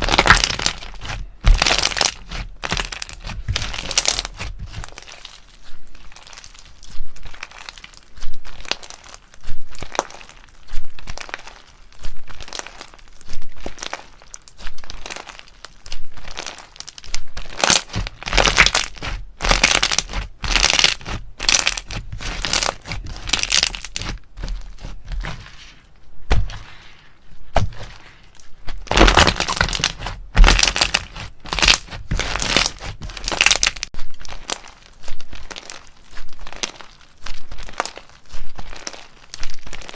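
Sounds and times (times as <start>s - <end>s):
slime crackling and popping: 0.0s - 39.9s.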